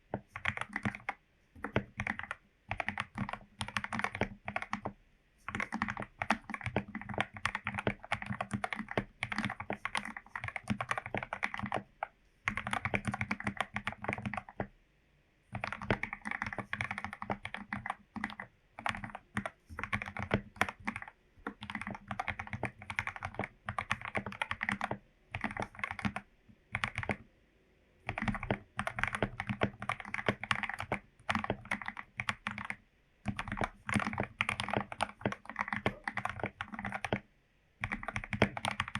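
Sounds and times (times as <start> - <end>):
mechanical keyboard typing: 0.1 - 14.7, 15.5 - 27.2, 28.0 - 37.2, 37.8 - 38.9.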